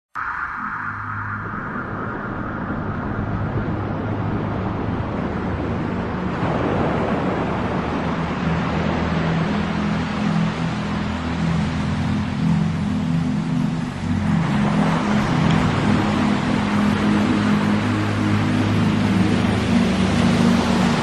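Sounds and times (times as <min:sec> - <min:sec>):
low steady drone: 0:00.1 - 0:21.0
white noise machine rushing: 0:00.2 - 0:21.0.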